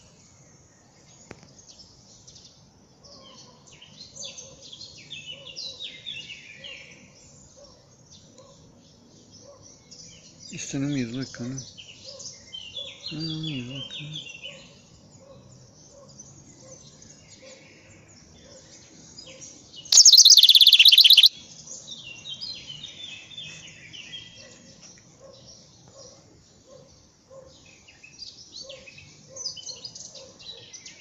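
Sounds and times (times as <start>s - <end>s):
small songbirds singing: 0.0s - 31.0s.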